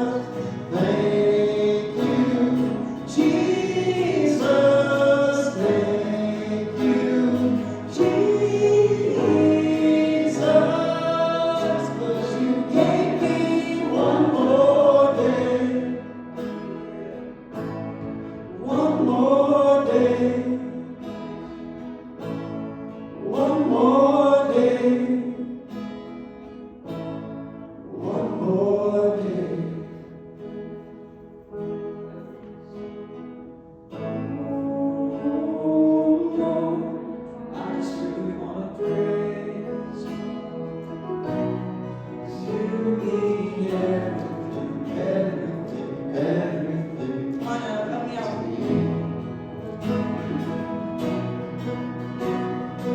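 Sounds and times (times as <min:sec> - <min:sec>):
voices singing gospel song: 0:00.0 - 0:21.6, 0:23.1 - 0:25.7, 0:27.9 - 0:30.2, 0:34.1 - 0:52.9.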